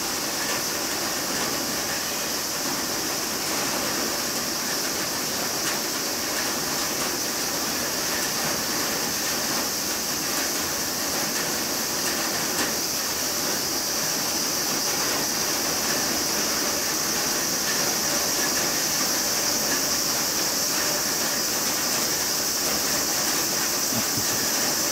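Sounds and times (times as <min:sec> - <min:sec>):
steady high-pitched hiss: 0:00.0 - 0:24.9.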